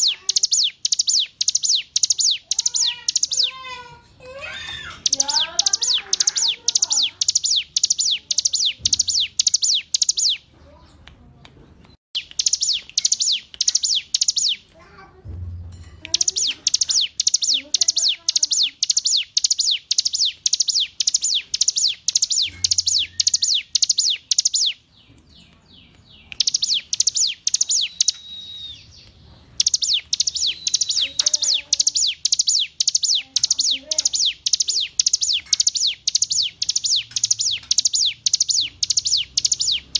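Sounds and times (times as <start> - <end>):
bird singing rapid high notes: 0.0 - 10.8, 12.2 - 39.9.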